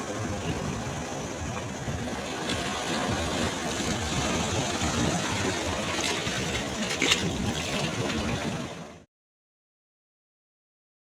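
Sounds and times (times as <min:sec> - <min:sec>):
surf washing on a beach: 0:00.0 - 0:09.0.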